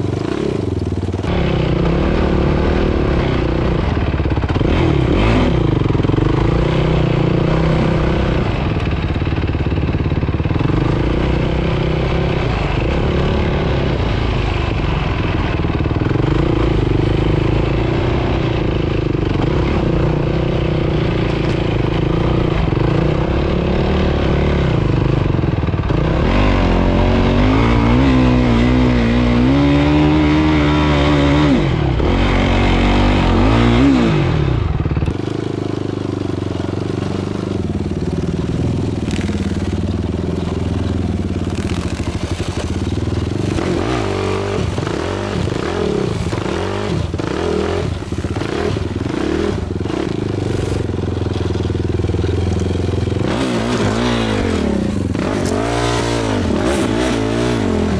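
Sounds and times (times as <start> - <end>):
engine rattles and knocks: 0.0 - 57.9
quad engine revving: 0.0 - 57.9.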